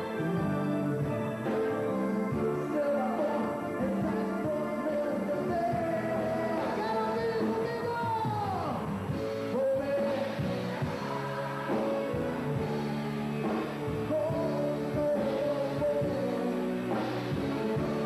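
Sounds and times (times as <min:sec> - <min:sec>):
bass: 0:00.0 - 0:18.0
drums: 0:00.0 - 0:18.0
lead guitar melody: 0:00.0 - 0:18.0.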